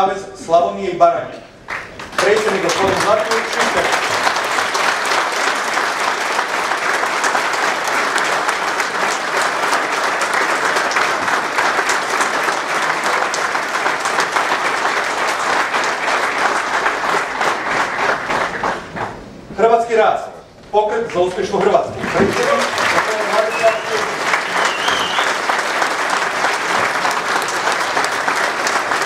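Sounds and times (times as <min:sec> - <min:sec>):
audience applauding: 0:01.6 - 0:19.5, 0:21.1 - 0:29.0.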